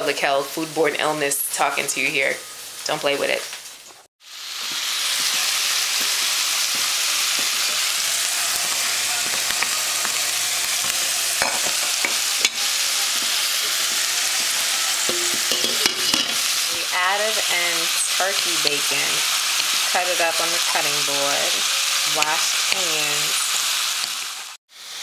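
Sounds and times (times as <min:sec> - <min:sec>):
food sizzling in frying pan: 0:00.0 - 0:25.0.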